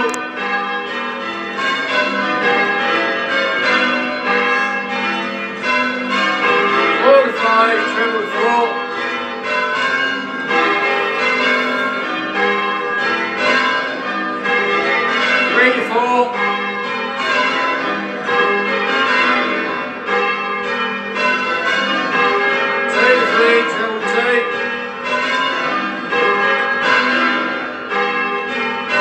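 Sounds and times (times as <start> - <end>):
church bells ringing changes: 0.0 - 29.0.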